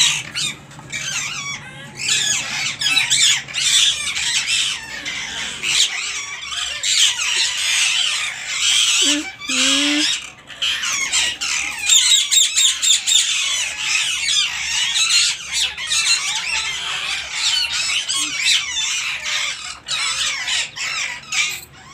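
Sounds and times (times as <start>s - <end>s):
parakeets screeching: 0.0s - 21.9s.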